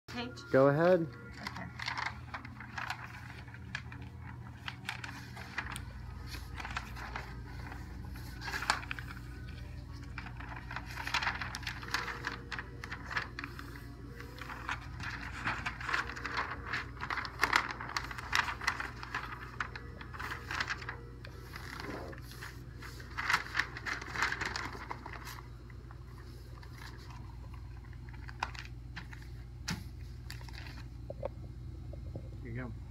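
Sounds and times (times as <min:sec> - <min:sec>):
steady low hum: 0:00.1 - 0:32.9
paper rustling and crackling: 0:00.8 - 0:31.1.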